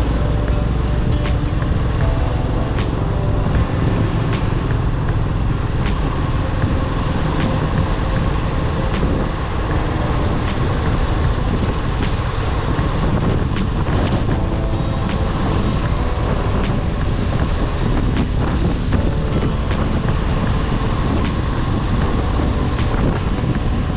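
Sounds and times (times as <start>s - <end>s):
passing traffic rumble: 0.0s - 23.9s.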